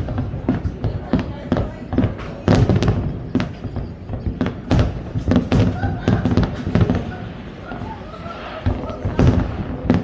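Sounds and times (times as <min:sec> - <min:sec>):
fireworks bangs and booms: 0:00.0 - 0:10.0.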